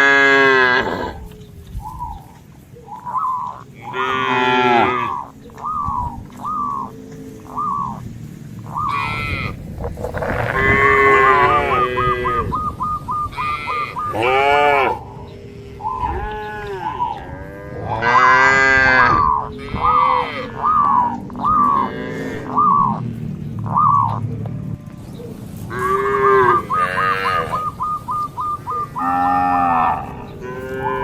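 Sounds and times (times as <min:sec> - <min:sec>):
cattle mooing: 0:00.0 - 0:01.4, 0:03.2 - 0:05.4, 0:06.6 - 0:23.1, 0:25.6 - 0:31.0.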